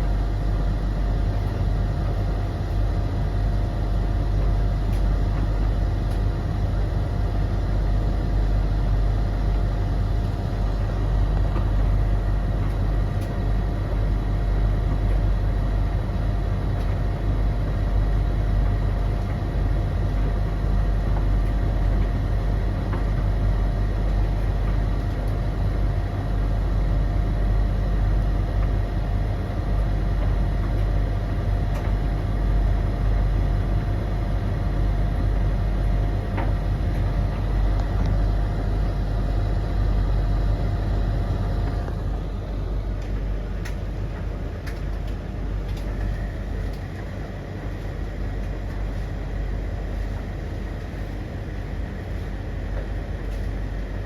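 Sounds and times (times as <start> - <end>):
constant whine: 0.0 - 54.0
tumble dryers humming: 0.0 - 54.0.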